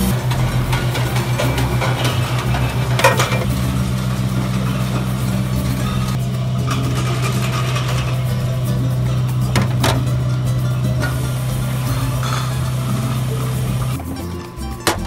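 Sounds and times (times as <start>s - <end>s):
bottling machine hum: 0.0s - 15.0s
noisy hiss: 0.0s - 15.0s.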